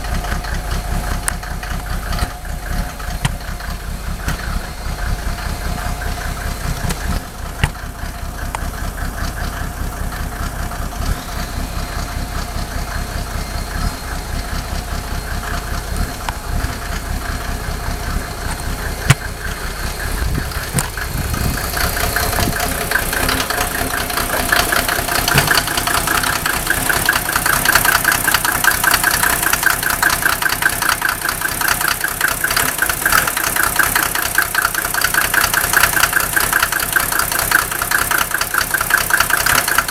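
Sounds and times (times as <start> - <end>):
diesel engine idling rough: 0.0 - 39.9.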